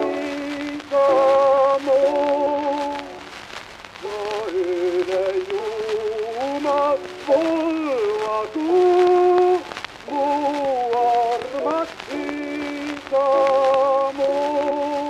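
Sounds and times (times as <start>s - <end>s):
man singing with vibrato: 0.0s - 3.4s, 4.0s - 15.0s
record hiss and crackle: 0.0s - 15.0s.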